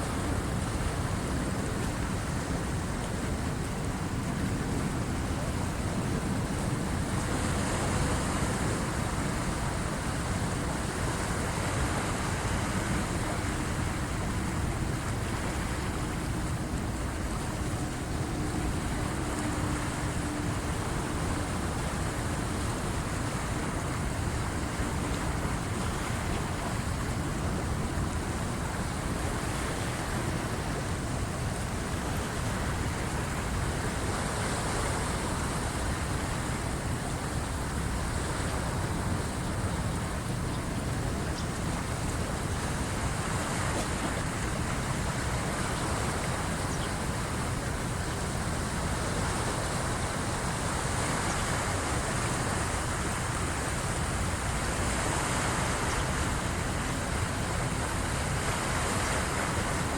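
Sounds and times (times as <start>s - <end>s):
waves washing against shore: 0.0s - 59.9s
wind rumbling on microphone: 0.0s - 59.9s.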